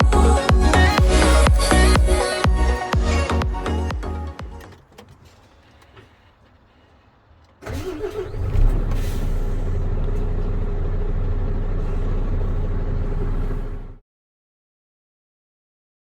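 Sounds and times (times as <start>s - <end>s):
truck diesel engine starting and idling: 0.0s - 14.0s.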